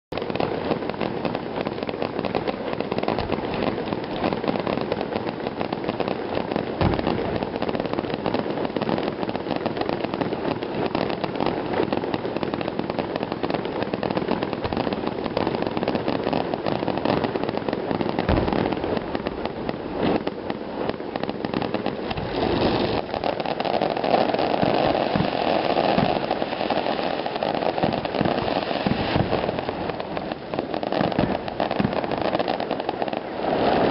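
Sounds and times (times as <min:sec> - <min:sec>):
fireworks crackling and popping: 0:00.1 - 0:33.9
heavy firework booms: 0:00.2 - 0:33.9.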